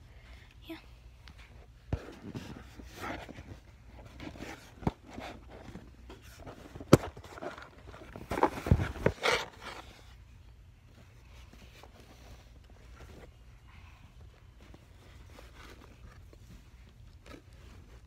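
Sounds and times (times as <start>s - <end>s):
rustling: 1.2s - 18.0s.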